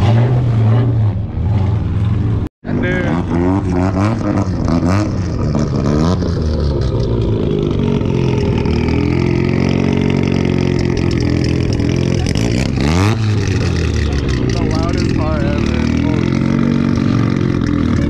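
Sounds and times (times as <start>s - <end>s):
car engine idling drone: 0.0s - 18.0s
car engine revving: 0.0s - 18.0s.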